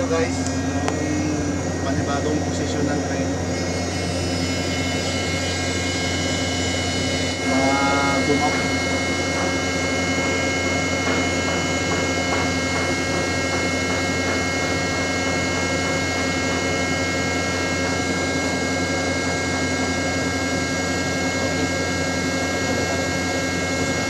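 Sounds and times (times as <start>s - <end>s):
crane machinery humming: 0.0s - 24.0s
steady whining tones: 0.0s - 24.0s.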